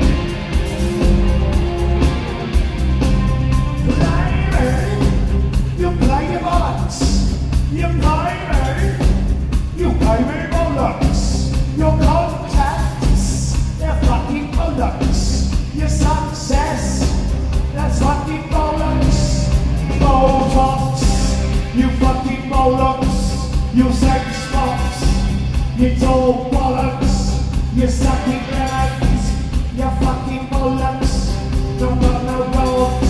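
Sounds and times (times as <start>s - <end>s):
live rock band playing: 0.0s - 33.0s
man singing: 3.8s - 33.0s.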